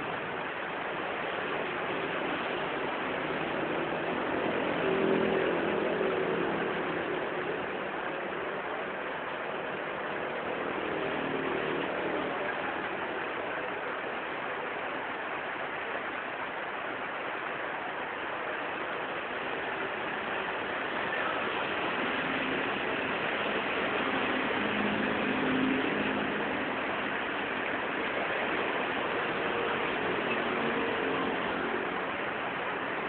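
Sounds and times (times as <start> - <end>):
engine hum: 0.0 - 33.0
rain hissing on wet road: 0.0 - 33.0
tyres swishing through water: 0.0 - 33.0.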